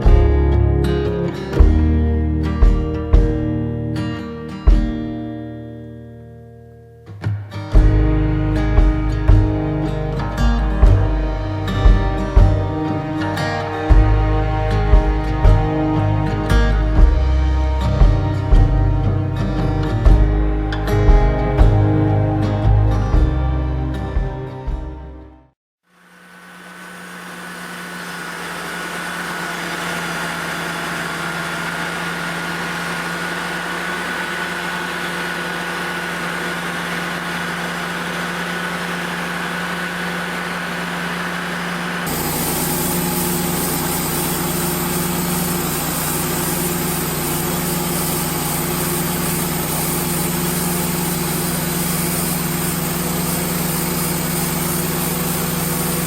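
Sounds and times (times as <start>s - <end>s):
sawmill engine running: 0.0s - 3.7s, 7.7s - 25.0s, 25.9s - 56.0s.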